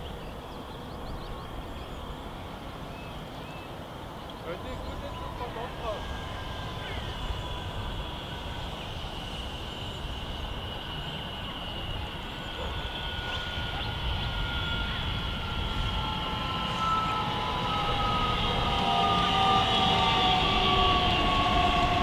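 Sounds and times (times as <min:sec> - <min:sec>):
electric train whine: 0:00.0 - 0:22.0
train rumble: 0:00.0 - 0:22.0.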